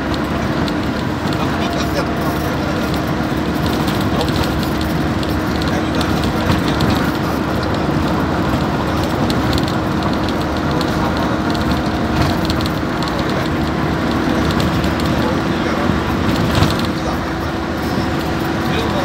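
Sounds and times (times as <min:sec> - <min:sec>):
constant vehicle hum: 0:00.0 - 0:19.0
road and wind noise: 0:00.0 - 0:19.0.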